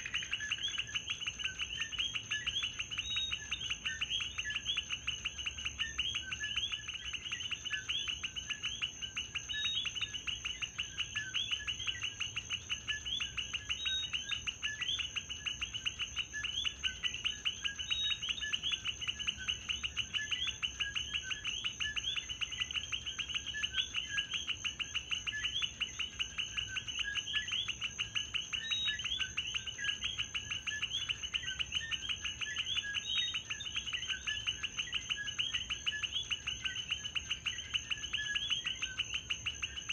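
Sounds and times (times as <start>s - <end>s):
frogs chorus calling: 0.0s - 39.9s.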